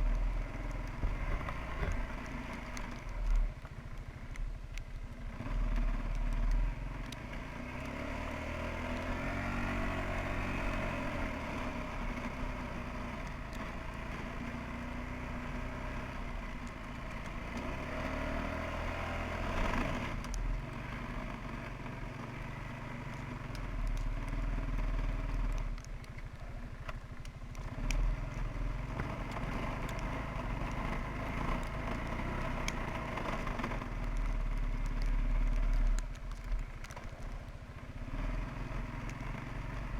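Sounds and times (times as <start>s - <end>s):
atv engine revving: 5.2s - 39.9s.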